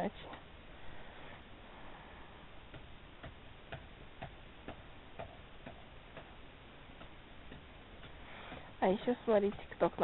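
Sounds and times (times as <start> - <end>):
low steady hiss: 0.0 - 10.0.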